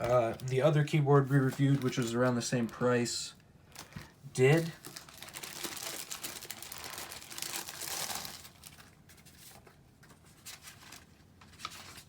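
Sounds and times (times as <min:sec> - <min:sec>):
paper leaflets rustling: 0:00.0 - 0:12.0.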